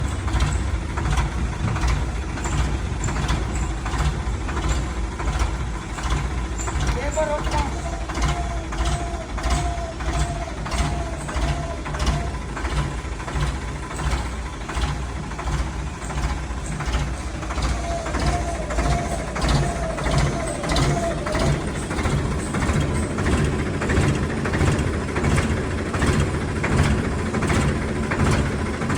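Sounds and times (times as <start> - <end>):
tractor diesel engine knocking: 0.0 - 28.9.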